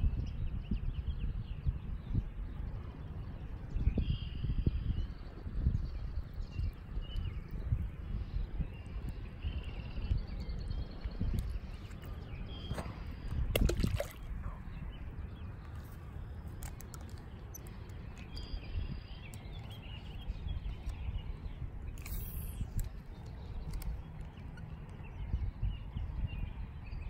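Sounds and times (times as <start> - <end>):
wind buffeting microphone: 0.0 - 27.0
small birds chirping: 0.1 - 27.0.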